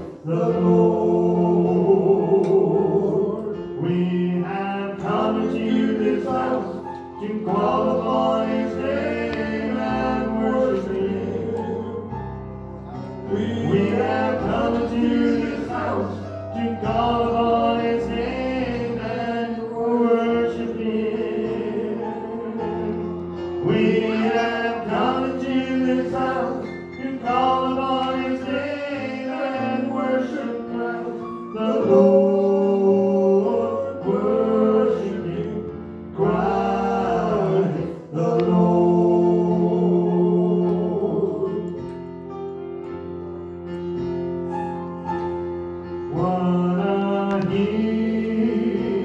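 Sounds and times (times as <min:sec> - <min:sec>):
gospel voices singing: 0:00.0 - 0:49.0
sustained organ chords: 0:00.0 - 0:49.0.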